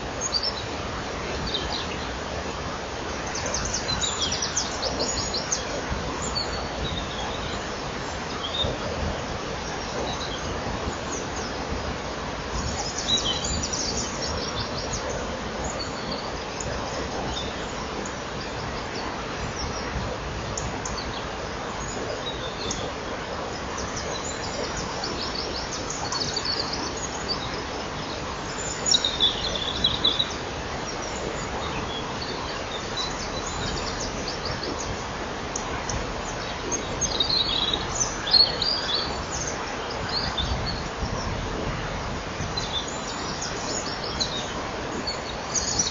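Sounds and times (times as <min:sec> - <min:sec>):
songbirds singing: 0:00.0 - 0:45.9
steady background hiss: 0:00.0 - 0:45.9.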